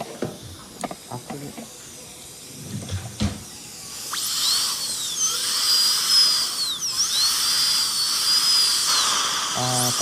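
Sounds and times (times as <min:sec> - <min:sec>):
dental drill whining: 0:00.0 - 0:10.0.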